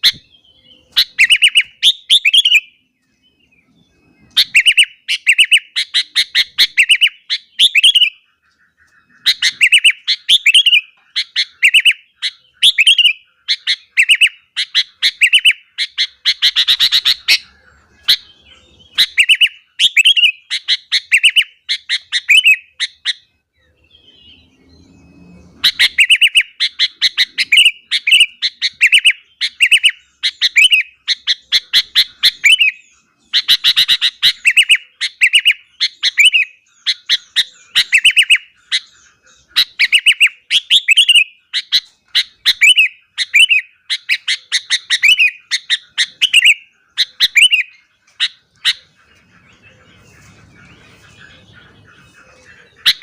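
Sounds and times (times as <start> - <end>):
bulbul chirping song: 0.0 - 53.0.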